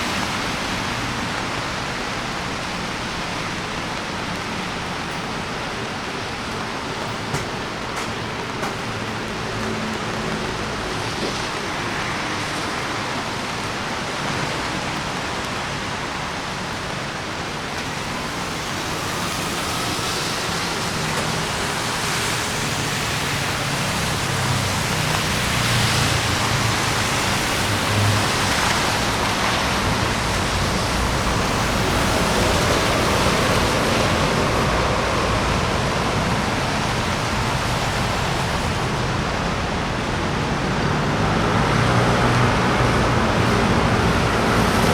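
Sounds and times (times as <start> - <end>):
rain hissing: 0.0 - 44.9
vehicles passing on wet street: 0.0 - 44.9.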